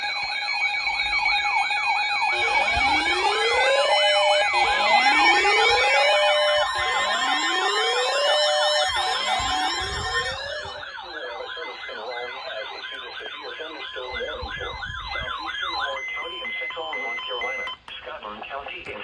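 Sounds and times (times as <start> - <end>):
electronic sirens wailing: 0.0 - 17.8.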